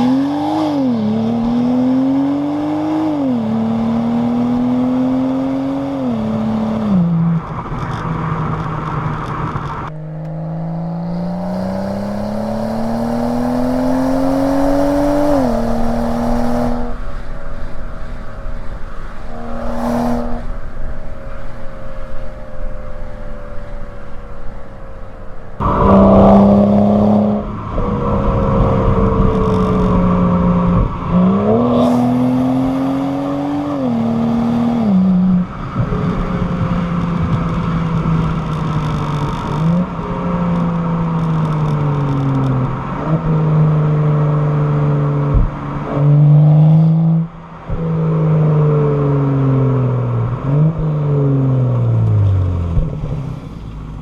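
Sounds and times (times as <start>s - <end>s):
car engine under load: 0.0s - 54.0s.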